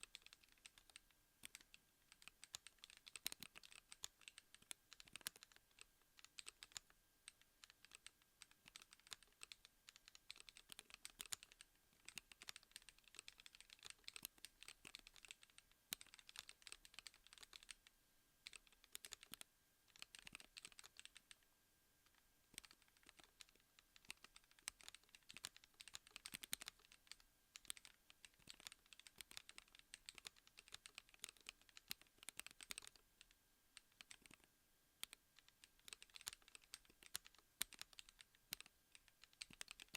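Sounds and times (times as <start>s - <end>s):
keyboard keystroke clicks: 0.0s - 17.8s, 22.6s - 33.0s, 33.8s - 39.9s.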